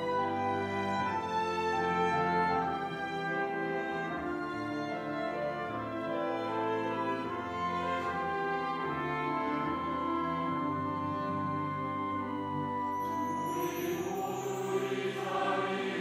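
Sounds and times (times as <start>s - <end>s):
violin flute and clarinets playing: 0.0s - 16.0s.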